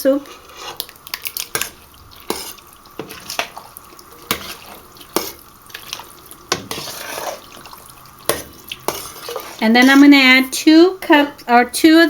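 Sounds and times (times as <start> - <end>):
spoon scraping pot: 0.1 - 10.4.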